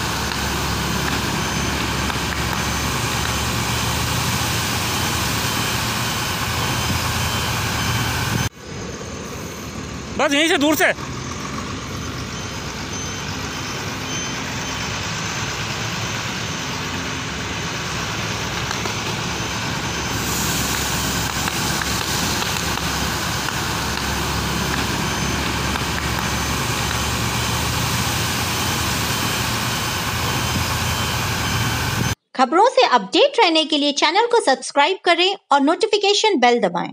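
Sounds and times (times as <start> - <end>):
fire rushing and crackling: 0.0 - 32.2.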